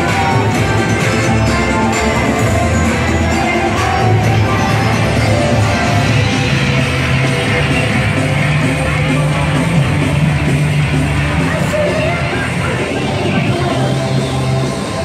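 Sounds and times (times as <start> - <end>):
loud parade music: 0.0 - 15.0.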